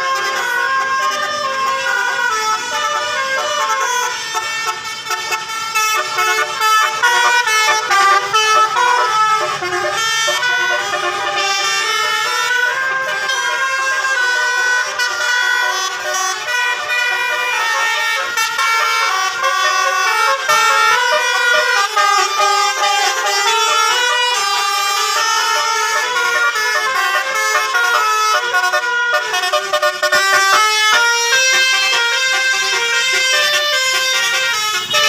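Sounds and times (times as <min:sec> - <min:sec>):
multi-tone bus horn melody: 0:00.0 - 0:35.0.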